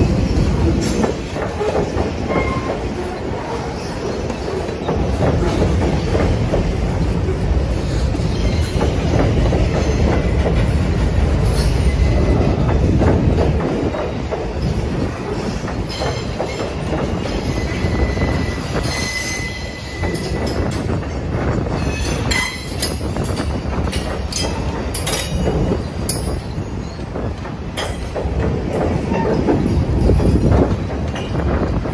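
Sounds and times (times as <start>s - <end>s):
freight cars rumbling over bridge: 0.0s - 31.9s
sharp squeaks and clanks: 0.2s - 6.4s, 7.8s - 12.7s, 14.2s - 31.7s.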